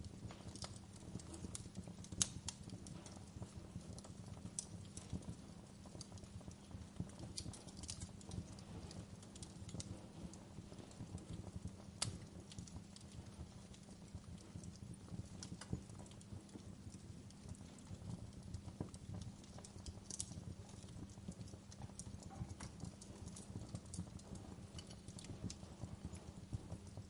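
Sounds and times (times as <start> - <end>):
fire flames rumbling: 0.0 - 27.0
wood fire crackling and popping: 0.0 - 27.0.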